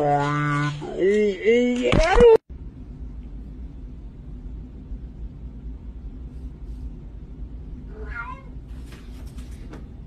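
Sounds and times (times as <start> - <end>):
low background rumble and hum: 0.0 - 10.0.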